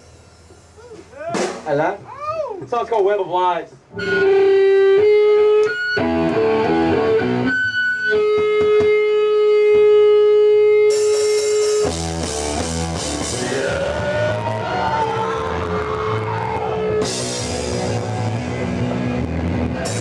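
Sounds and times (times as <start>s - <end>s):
drums and bass: 0.0s - 2.4s, 3.8s - 20.0s
electric guitar notes: 3.9s - 20.0s.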